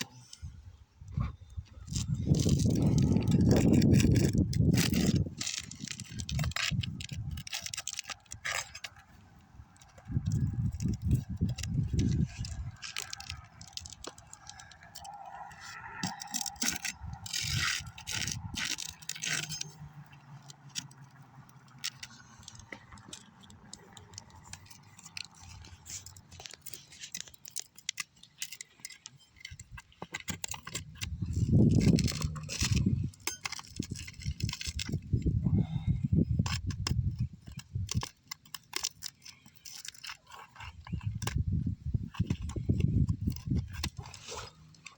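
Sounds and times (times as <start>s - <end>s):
hand tools scraping roof shingles: 1.1s - 44.9s.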